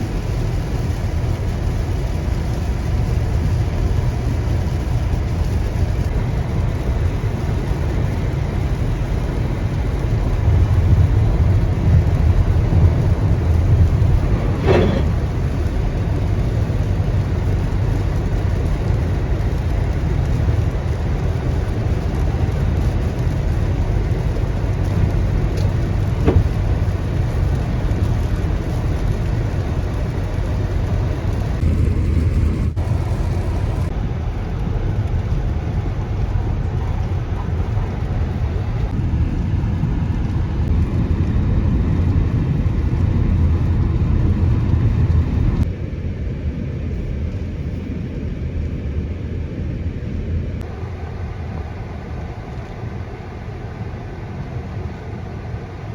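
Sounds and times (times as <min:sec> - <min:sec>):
road and rain rumble: 0:00.0 - 0:55.9.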